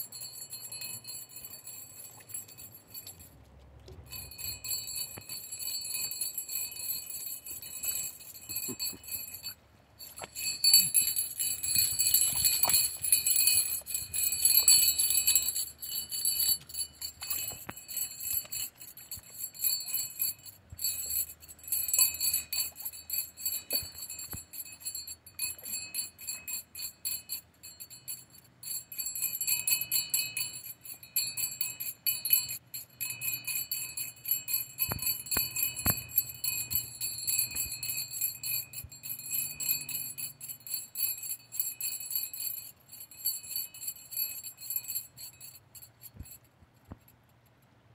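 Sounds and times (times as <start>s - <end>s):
hand bell jingling: 0.0s - 47.2s.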